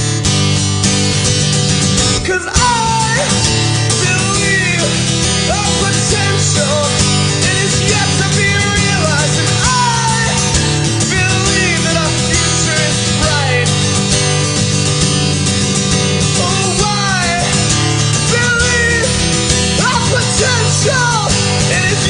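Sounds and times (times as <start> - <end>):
bass guitar: 0.0 - 22.0
lead guitar line bending: 0.0 - 22.0
strummed guitar: 0.0 - 22.0.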